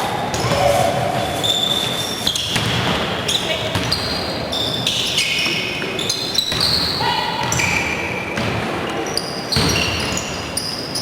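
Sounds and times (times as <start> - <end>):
basketball shoes squeaking: 0.1 - 11.0.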